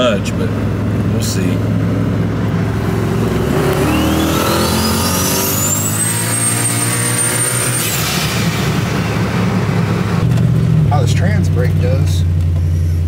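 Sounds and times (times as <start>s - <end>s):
engine accelerating hard: 0.0s - 13.0s.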